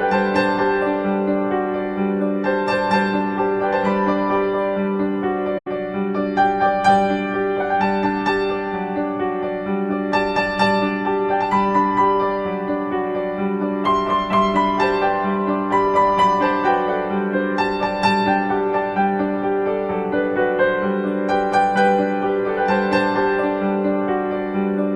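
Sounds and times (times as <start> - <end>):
slow piano music: 0.0 - 24.9.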